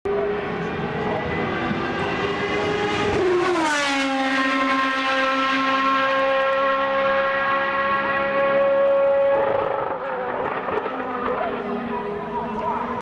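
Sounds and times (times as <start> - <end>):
race car engine at high revs: 0.1 - 13.0.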